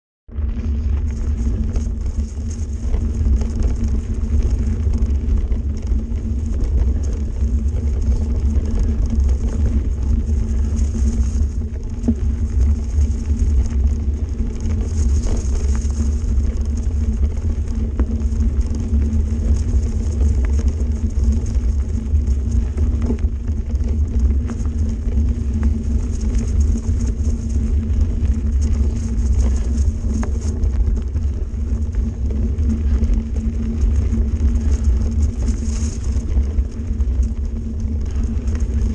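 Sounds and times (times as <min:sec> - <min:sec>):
bike tyres rumbling on dirt trail: 0:00.3 - 0:38.9.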